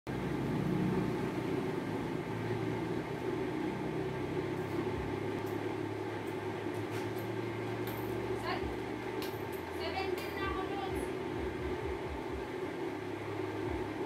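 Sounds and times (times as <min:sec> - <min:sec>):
low mechanical hum: 0:00.1 - 0:14.0.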